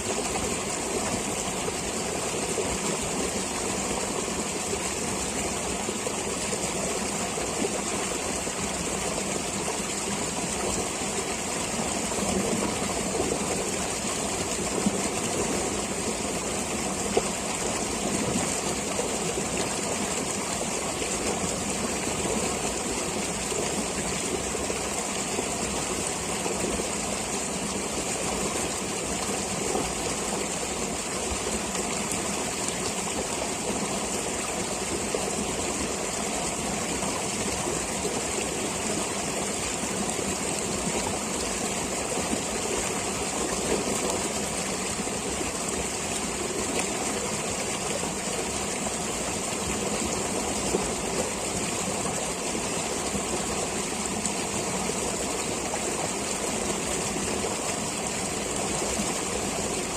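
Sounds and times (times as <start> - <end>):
stream of water flowing: 0.0 - 59.9.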